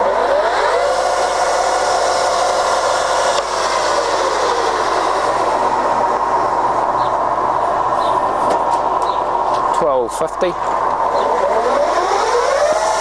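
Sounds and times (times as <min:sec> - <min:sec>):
lathe spindle and gears whining: 0:00.0 - 0:13.0.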